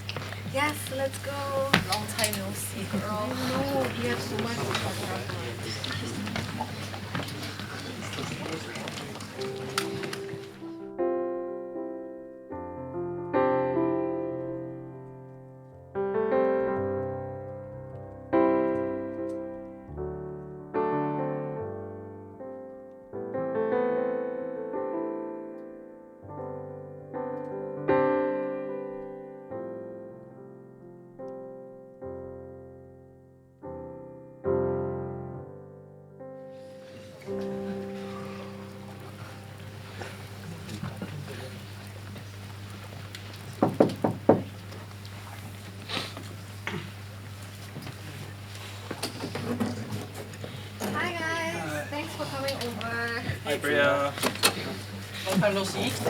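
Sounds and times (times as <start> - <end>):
slow solo piano chords: 0.0 - 56.0.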